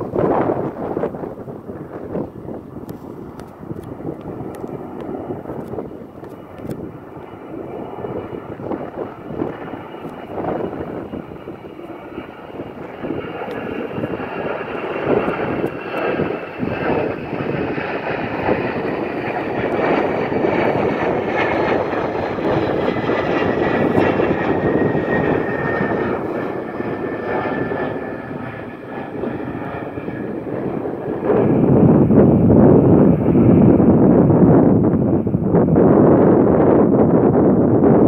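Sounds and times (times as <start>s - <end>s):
high engine whine falling in pitch: 0.0s - 37.6s
jet engines roaring: 0.0s - 38.0s.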